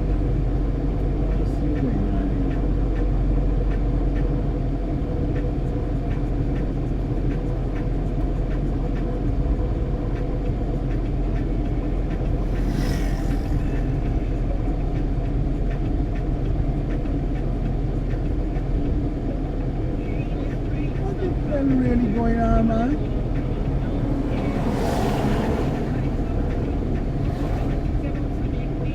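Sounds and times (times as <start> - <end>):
engine idling hum: 0.0 - 28.9.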